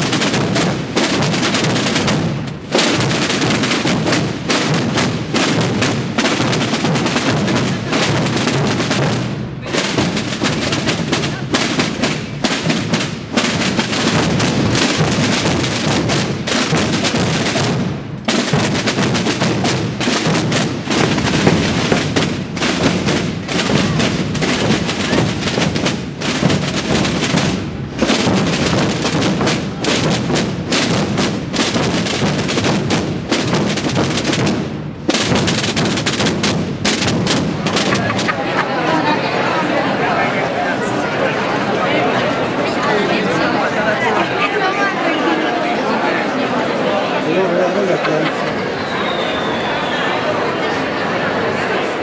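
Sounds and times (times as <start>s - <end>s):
massed drums rolling: 0.0s - 50.1s.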